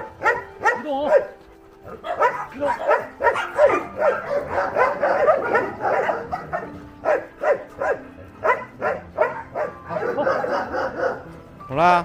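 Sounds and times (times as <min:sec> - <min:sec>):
dogs barking and yipping: 0:00.0 - 0:11.6.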